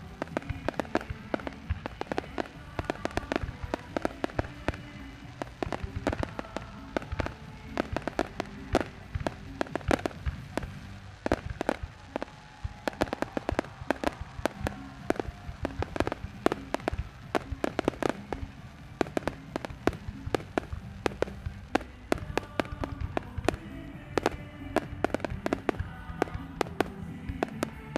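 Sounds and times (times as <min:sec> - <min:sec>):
fireworks bangs and crackles: 0:00.0 - 0:27.9.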